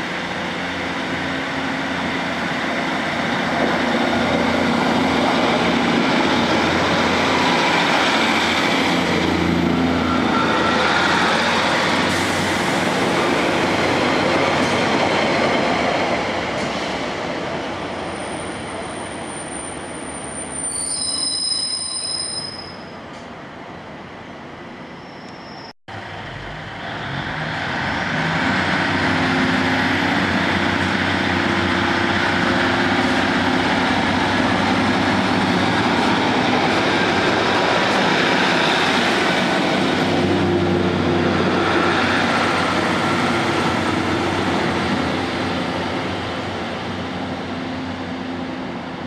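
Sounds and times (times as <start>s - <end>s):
passenger train passing: 0.0s - 49.0s.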